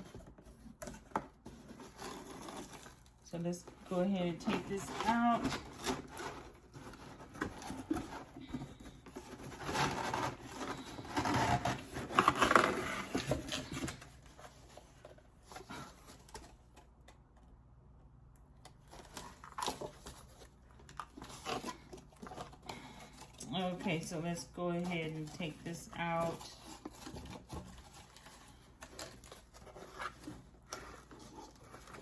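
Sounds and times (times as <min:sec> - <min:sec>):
cardboard box rustling: 0:00.0 - 0:16.9, 0:18.8 - 0:32.0.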